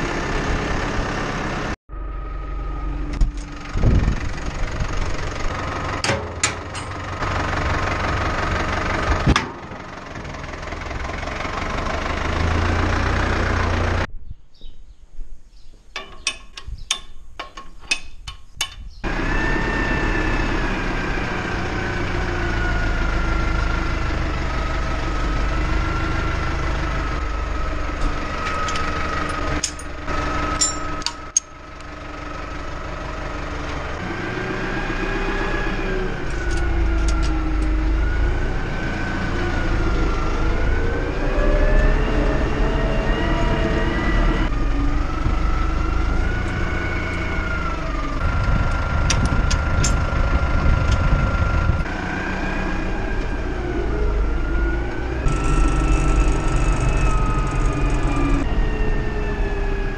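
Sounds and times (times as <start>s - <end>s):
tractor diesel engine running: 0.0s - 14.1s, 19.0s - 59.9s.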